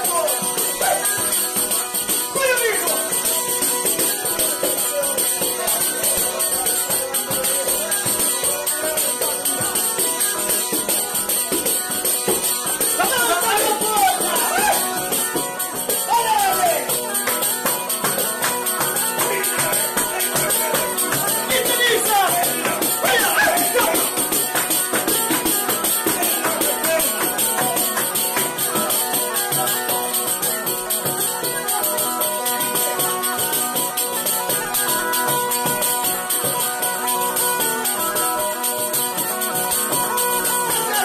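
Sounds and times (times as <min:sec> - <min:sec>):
bagpipe melody with drones: 0:00.0 - 0:41.0
jingling frame drum beat: 0:00.0 - 0:41.0.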